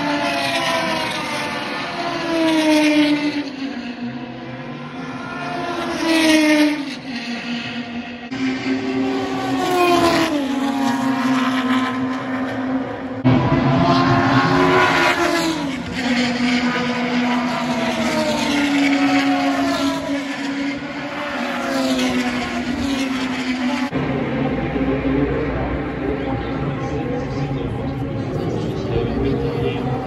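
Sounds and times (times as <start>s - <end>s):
racing car engines revving: 0.0s - 30.0s.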